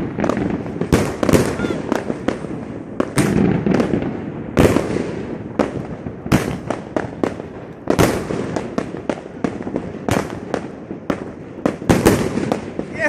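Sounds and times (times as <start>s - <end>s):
distant fireworks rumble: 0.0s - 13.0s
fireworks bangs and crackles: 0.0s - 13.0s.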